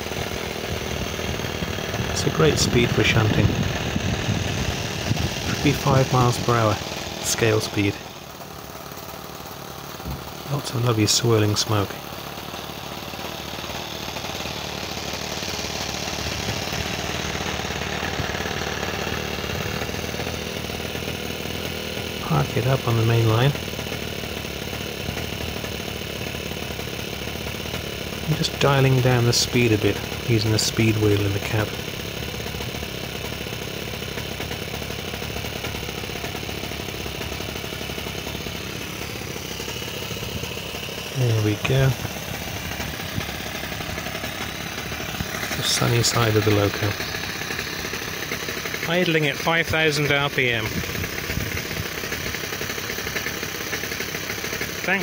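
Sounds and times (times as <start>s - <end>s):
small glow engine running: 0.0s - 55.0s.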